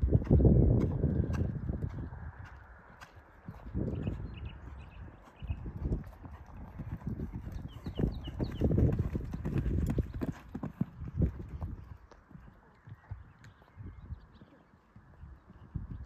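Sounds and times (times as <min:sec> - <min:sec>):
horse hoofbeats on sand: 0:00.0 - 0:13.6.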